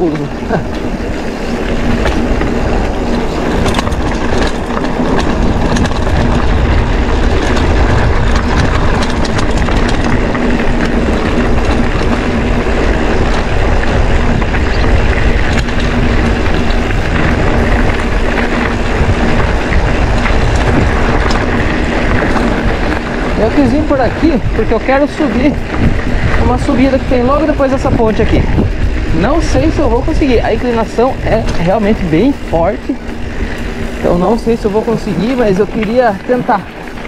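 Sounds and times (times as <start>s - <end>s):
clicks and rattles of stones: 0.0s - 32.3s
bike tyres rumbling on dirt: 0.0s - 37.0s.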